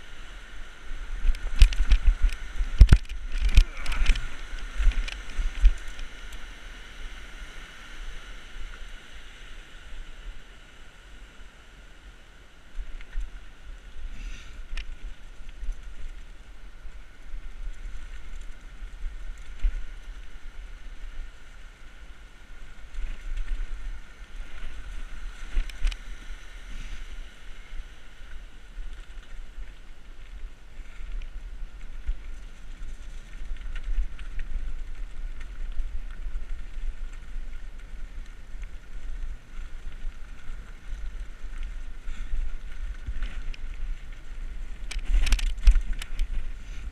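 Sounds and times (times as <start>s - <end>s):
bike clicks and jolts: 0.3s - 7.3s, 12.7s - 46.9s.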